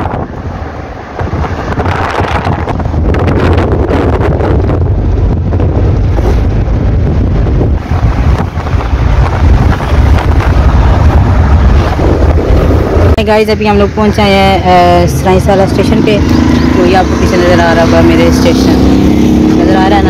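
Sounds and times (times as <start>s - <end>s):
low road and engine rumble: 0.0s - 20.0s
wind buffeting microphone: 0.0s - 20.0s.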